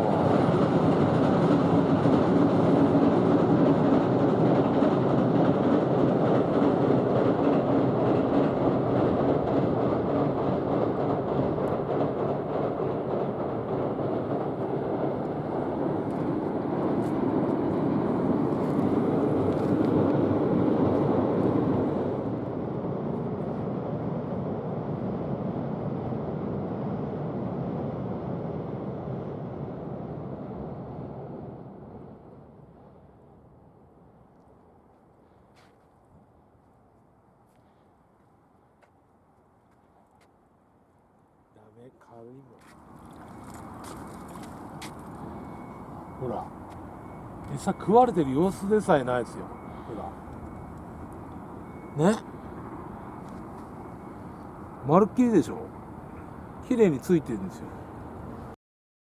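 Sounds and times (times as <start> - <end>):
train rumbling on rails: 0.0 - 34.2, 42.7 - 58.6.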